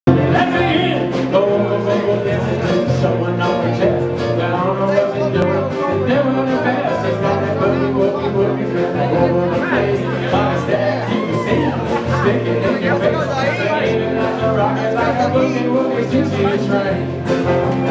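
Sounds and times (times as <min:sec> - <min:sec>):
country dance band playing: 0:00.1 - 0:17.9
repeating bass line: 0:00.1 - 0:17.9.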